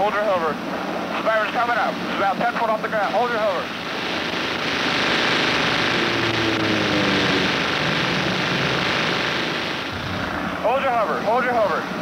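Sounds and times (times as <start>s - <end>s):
helicopter rotor and turbine noise: 0.0s - 12.0s
faint falling whine: 1.2s - 11.8s.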